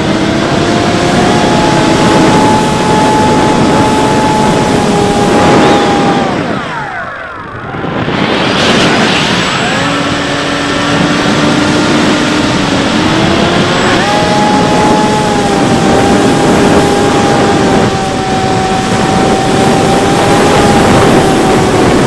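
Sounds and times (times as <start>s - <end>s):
electric motor and propeller whining: 0.0s - 22.0s
wind rush over microphone: 0.0s - 22.0s.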